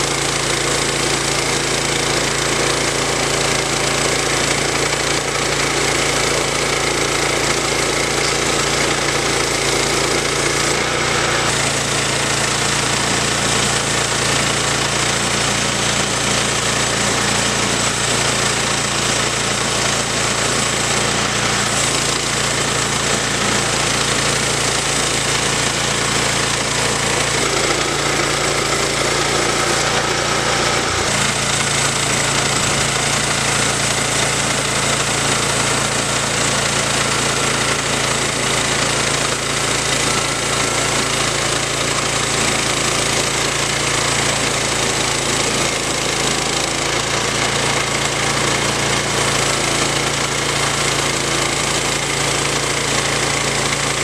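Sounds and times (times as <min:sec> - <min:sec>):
bandsaw mill cutting log: 0:00.0 - 0:54.0.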